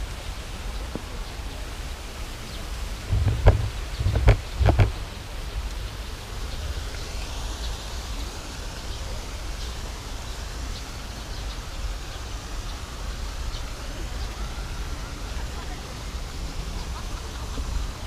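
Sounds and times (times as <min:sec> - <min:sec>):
distant city traffic hiss: 0:00.0 - 0:18.0
wind rumbling on microphone: 0:00.0 - 0:18.0.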